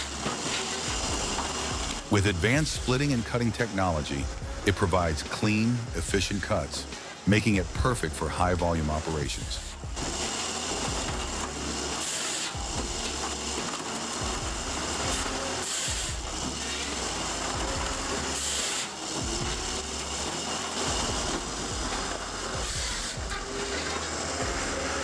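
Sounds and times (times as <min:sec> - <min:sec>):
firewood processor running: 0:00.0 - 0:25.0
hydraulic hissing surges: 0:00.0 - 0:25.0.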